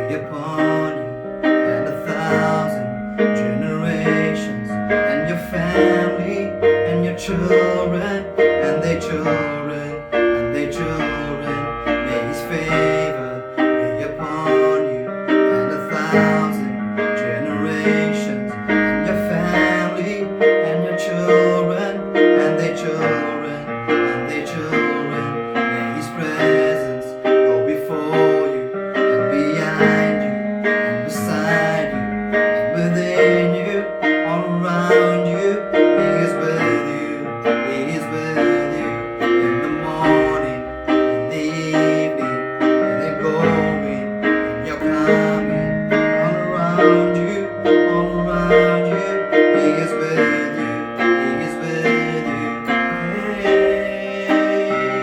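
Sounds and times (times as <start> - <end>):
worship song on piano keyboard: 0.0 - 55.0.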